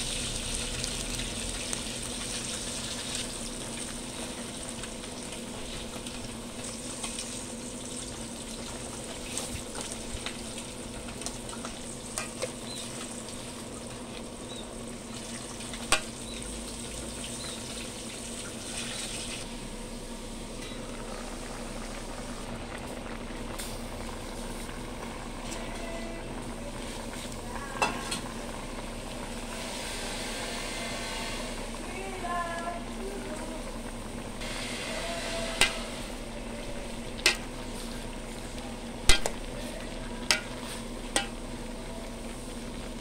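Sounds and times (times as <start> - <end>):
vegetables and pork sizzling in oil: 0.0 - 43.0.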